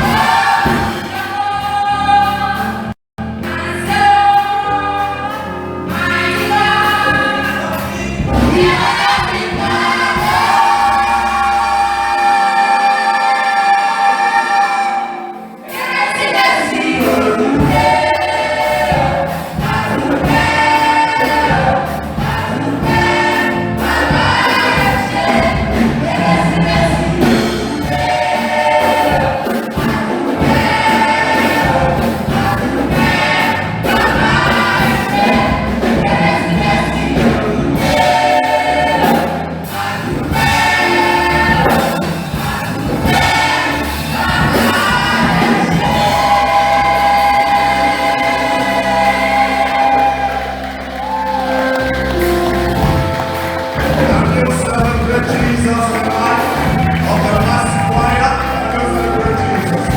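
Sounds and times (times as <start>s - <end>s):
choir singing gospel song: 0.0s - 59.9s
low instrumental backing: 0.0s - 59.9s.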